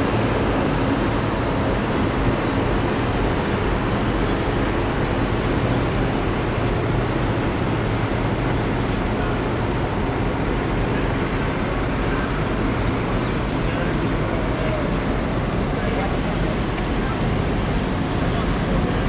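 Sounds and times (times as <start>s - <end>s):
ship diesel engine rumbling: 0.0s - 19.0s.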